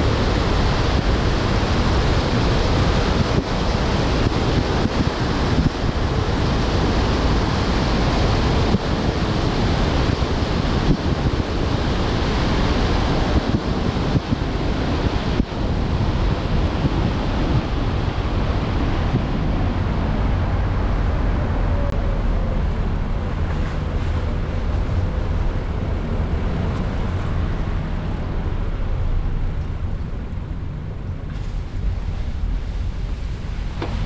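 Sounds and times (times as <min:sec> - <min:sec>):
tyre noise on wet road: 0:00.0 - 0:34.0
wind rushing over microphone: 0:00.0 - 0:34.0.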